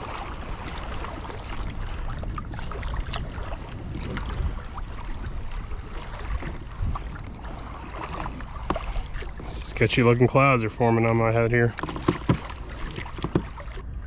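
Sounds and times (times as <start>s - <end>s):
water lapping against boat: 0.0s - 14.0s
wind rumbling on microphone: 0.0s - 14.0s.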